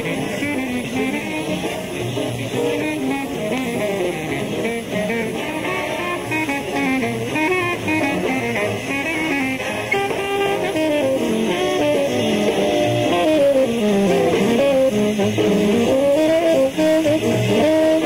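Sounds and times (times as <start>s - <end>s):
big band jazz on am radio: 0.0s - 18.0s.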